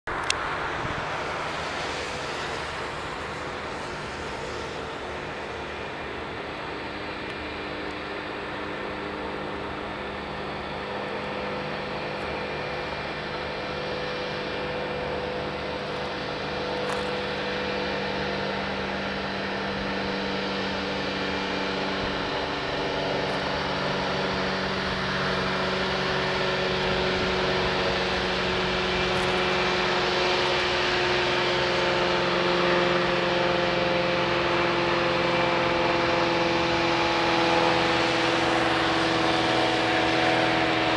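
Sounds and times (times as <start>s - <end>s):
engine drone with held tones: 0.1s - 40.9s.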